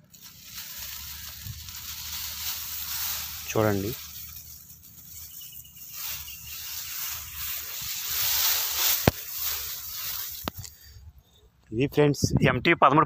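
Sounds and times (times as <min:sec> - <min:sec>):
leaves rustling against phone: 0:00.0 - 0:11.0.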